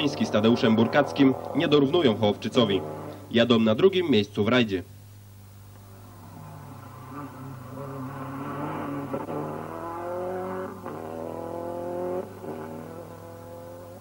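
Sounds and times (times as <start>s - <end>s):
rally car engine revving: 0.0s - 3.3s, 5.8s - 14.0s.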